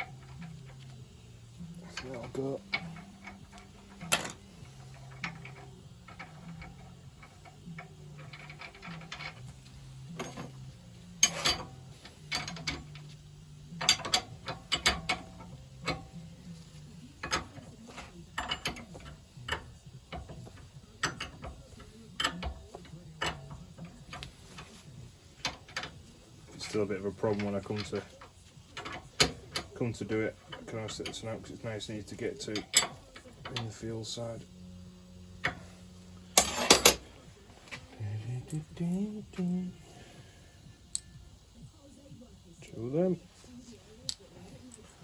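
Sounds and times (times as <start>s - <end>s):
metal tools clinking: 0.0s - 34.1s, 35.4s - 37.1s, 44.0s - 45.0s.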